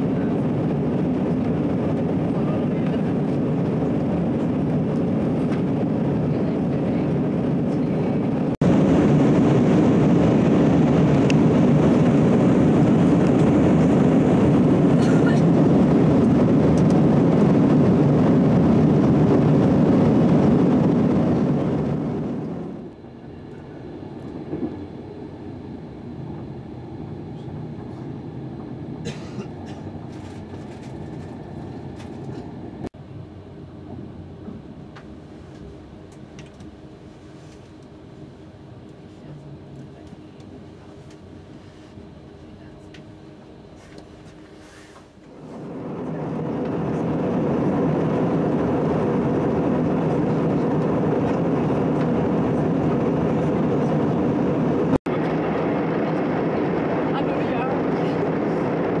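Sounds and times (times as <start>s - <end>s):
jet airliner cabin noise: 0.0s - 59.0s
train running rumble: 0.0s - 59.0s.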